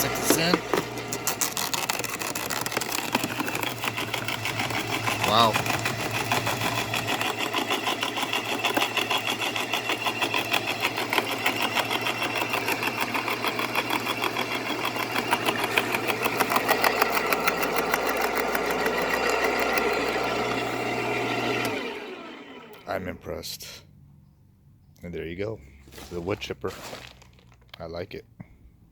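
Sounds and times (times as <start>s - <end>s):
wood chipper chewing branch: 0.0s - 23.8s, 25.0s - 28.0s.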